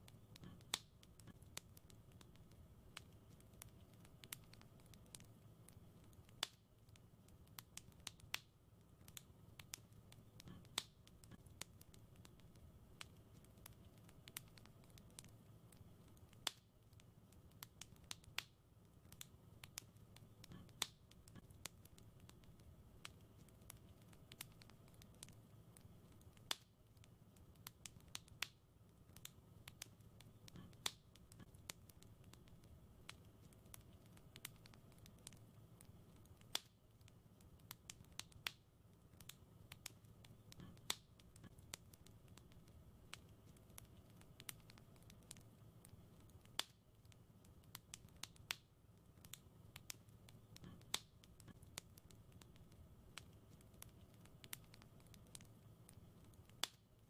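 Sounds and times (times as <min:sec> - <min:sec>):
fire snapping and popping: 0:00.0 - 0:57.0
low rumble of flames: 0:00.0 - 0:57.0.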